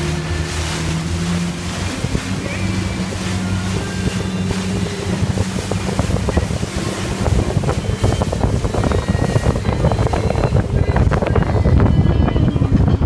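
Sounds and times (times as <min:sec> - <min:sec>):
low engine hum: 0:00.0 - 0:13.0
water splashing against hull: 0:00.0 - 0:13.0
wind buffeting microphone: 0:00.0 - 0:13.0.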